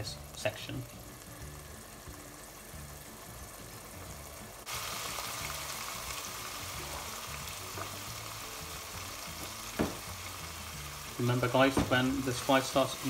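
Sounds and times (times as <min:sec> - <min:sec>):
curry sizzling in a pot: 0:00.0 - 0:13.0.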